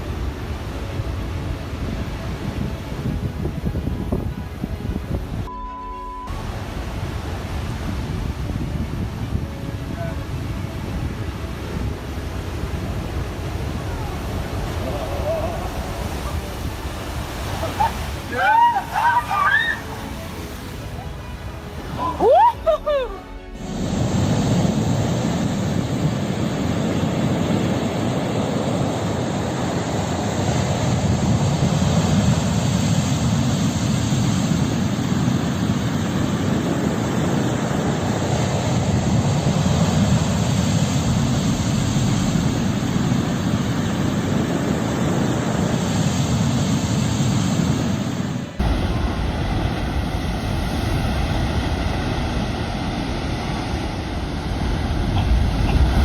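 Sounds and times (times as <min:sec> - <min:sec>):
heavy surf roaring: 0:00.0 - 0:56.0
wind on microphone: 0:00.0 - 0:56.0.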